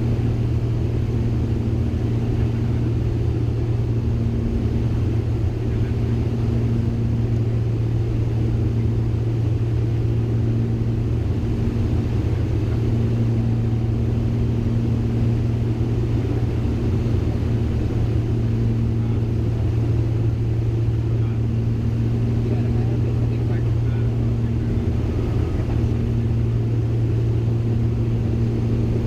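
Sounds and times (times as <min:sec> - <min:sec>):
aircraft engines droning in cockpit: 0:00.0 - 0:29.0.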